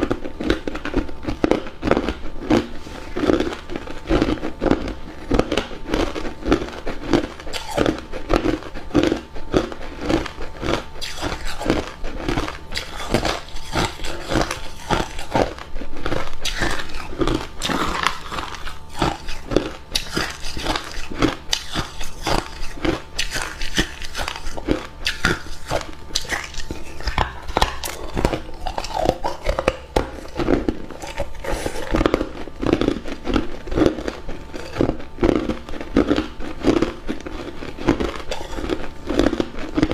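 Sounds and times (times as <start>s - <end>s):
person crunching ice: 0.4s - 39.9s.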